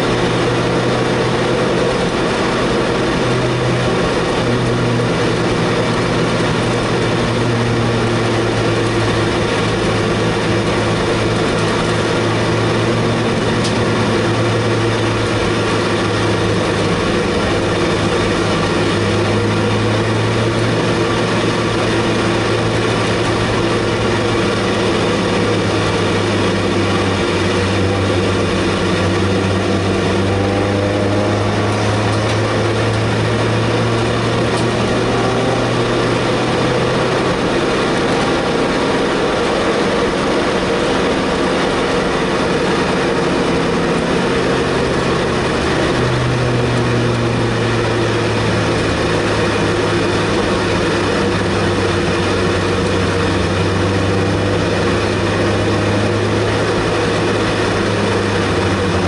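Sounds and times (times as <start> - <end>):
race car engine cruising: 0.0 - 59.0
road and wind noise: 0.0 - 59.0.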